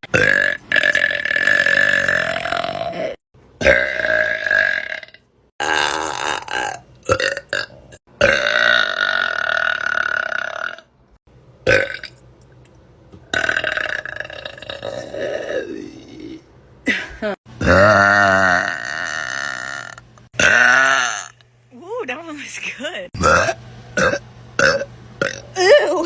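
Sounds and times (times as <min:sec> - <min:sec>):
woman burping loudly: 0:00.1 - 0:10.9, 0:13.3 - 0:17.0, 0:17.6 - 0:21.4, 0:23.2 - 0:26.0.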